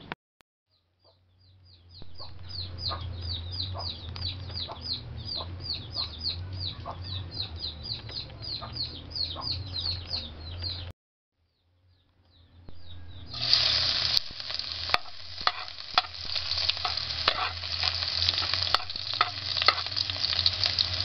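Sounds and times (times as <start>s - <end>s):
birds chirping rapidly: 0.7s - 21.0s.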